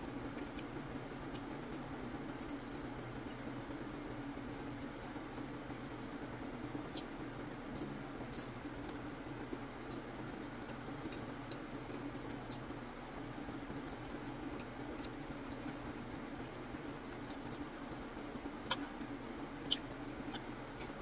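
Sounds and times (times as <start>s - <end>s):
soft chewing: 0.0s - 3.7s, 6.7s - 21.0s
low background hum: 0.0s - 21.0s.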